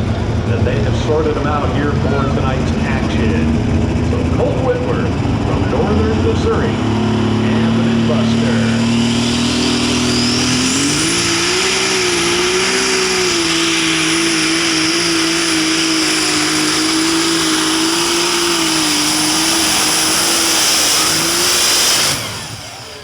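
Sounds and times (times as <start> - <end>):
diesel tractor engine at full throttle: 0.0 - 23.0
high whine: 0.0 - 23.0.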